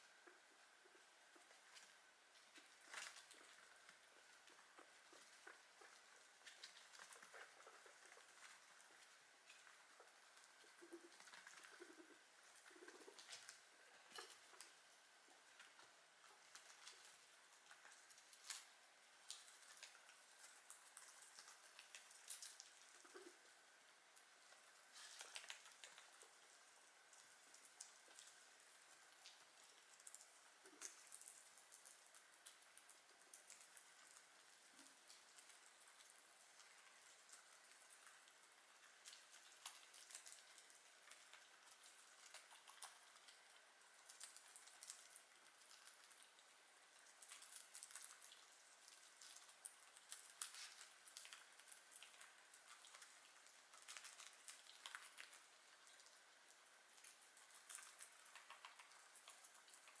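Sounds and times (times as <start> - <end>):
guinea pigs chewing: 0.0 - 60.0.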